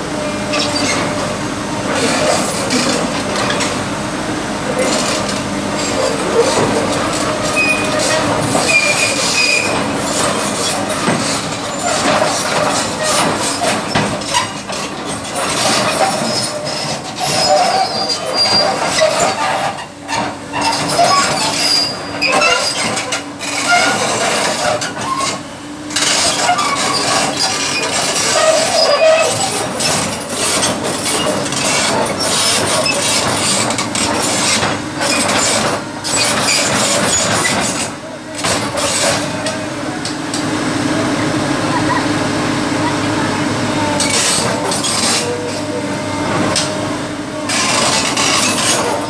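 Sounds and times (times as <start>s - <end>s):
diesel engine hum: 0.0s - 49.0s
steel tracks squeaking and scraping: 0.2s - 4.0s, 4.6s - 40.4s, 41.2s - 49.0s.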